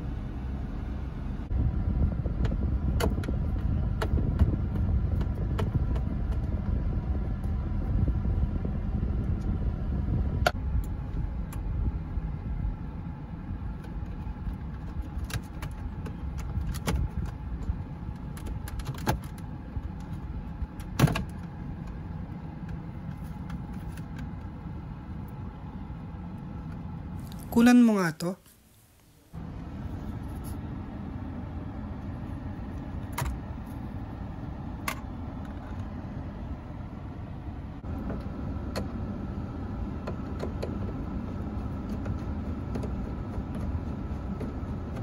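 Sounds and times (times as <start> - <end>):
low hum: 0.0 - 27.8, 28.4 - 45.0.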